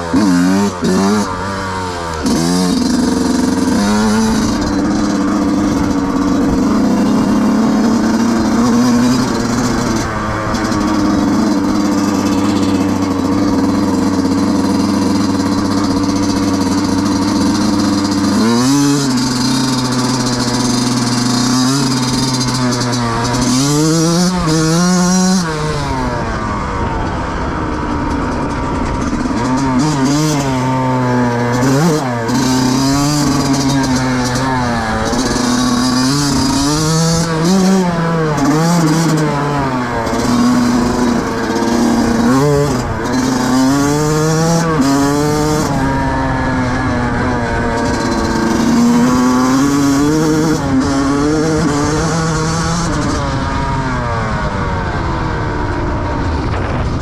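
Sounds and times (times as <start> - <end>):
two-stroke engine idling and revving: 0.0 - 57.0.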